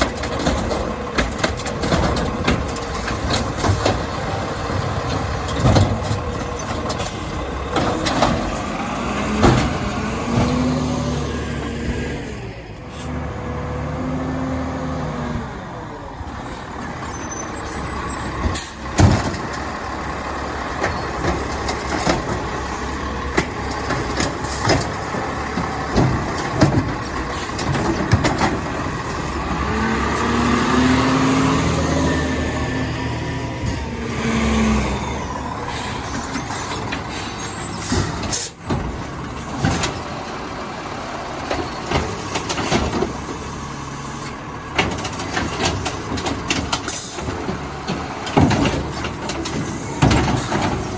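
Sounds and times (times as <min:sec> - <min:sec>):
garbage truck knocks and clanks: 0:00.0 - 0:11.2, 0:17.8 - 0:43.8, 0:44.6 - 0:50.9
truck engine revving: 0:00.0 - 0:50.9.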